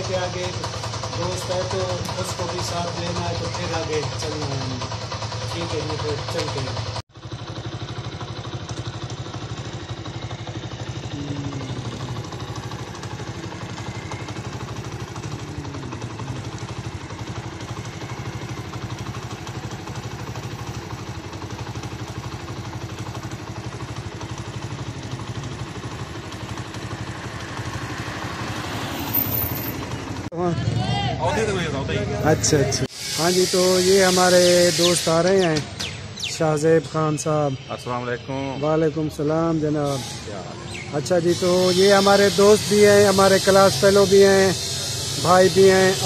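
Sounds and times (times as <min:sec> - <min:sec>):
motorcycle engine running: 0:00.0 - 0:37.7, 0:39.0 - 0:46.0.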